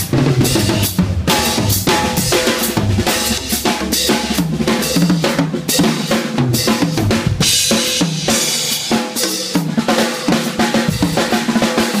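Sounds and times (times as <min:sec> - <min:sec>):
drum kit solo: 0:00.0 - 0:12.0.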